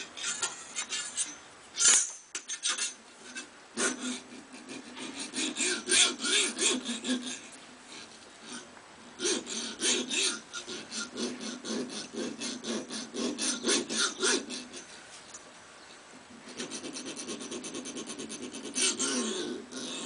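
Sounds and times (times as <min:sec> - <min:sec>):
hacksaw sawing steel: 0:00.0 - 0:07.5, 0:08.4 - 0:14.9, 0:16.5 - 0:20.0.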